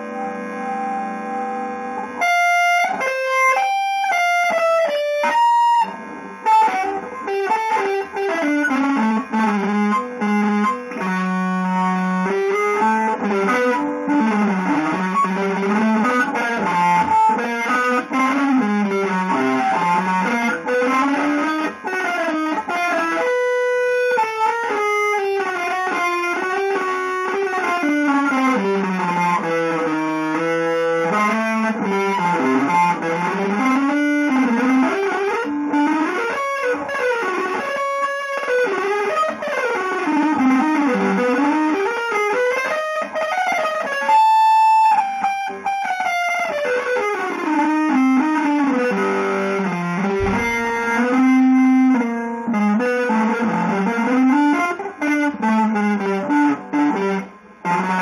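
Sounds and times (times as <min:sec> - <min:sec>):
electric guitar solo: 0:00.0 - 0:58.0.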